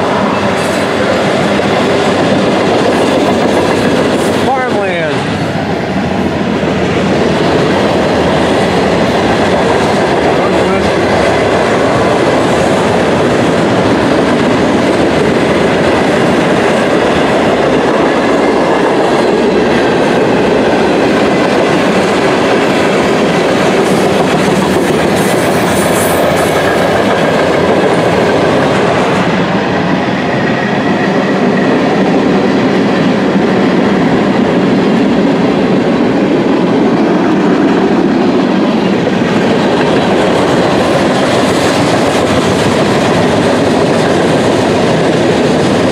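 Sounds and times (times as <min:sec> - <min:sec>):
freight train wheels clattering: 0:00.0 - 0:45.9.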